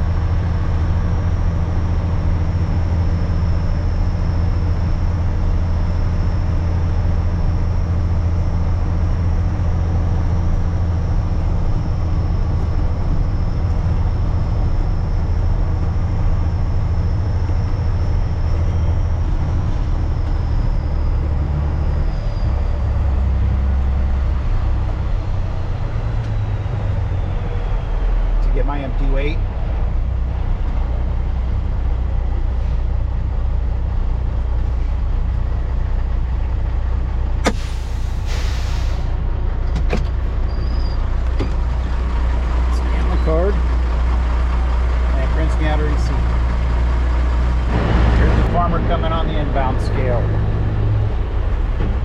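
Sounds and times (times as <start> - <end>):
truck engine hum: 0.0 - 52.0.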